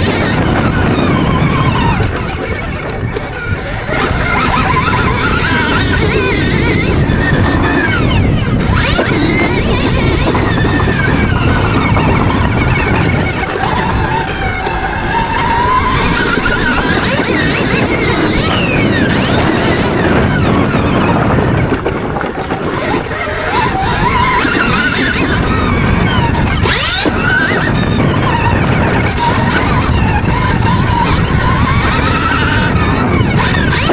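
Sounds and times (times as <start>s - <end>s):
electric motorbike motor whine: 0.0s - 33.9s.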